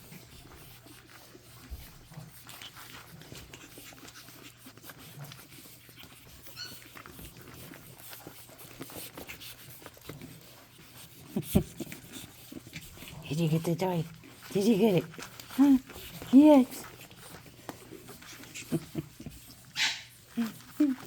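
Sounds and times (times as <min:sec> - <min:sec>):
paws and toy clicking: 0:00.0 - 0:21.0
puppies scuffling: 0:00.0 - 0:21.0.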